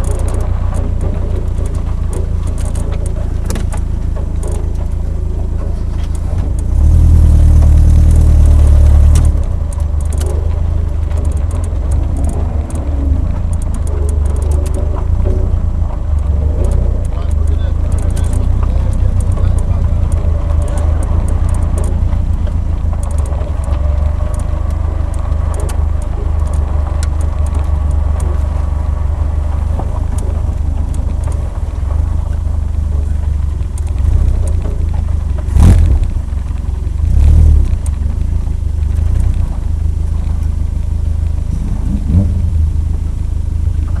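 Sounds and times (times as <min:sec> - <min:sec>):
car engine low rumble: 0:00.0 - 0:44.0.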